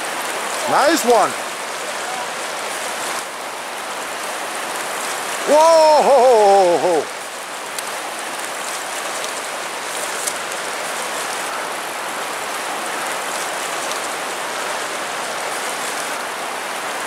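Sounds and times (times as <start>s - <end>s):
creek water rushing over stones: 0.0s - 17.0s.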